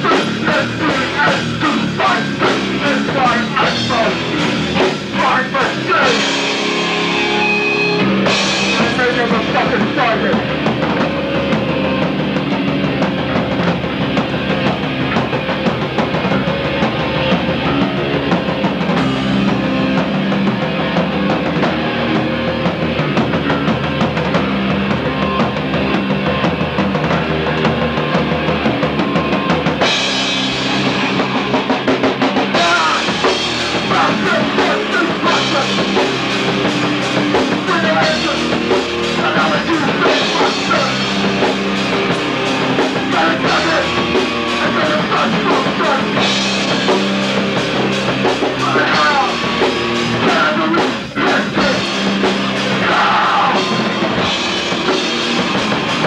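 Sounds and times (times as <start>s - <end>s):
drum kit with cymbals: 0.0s - 56.0s
live rock band playing: 0.0s - 56.0s.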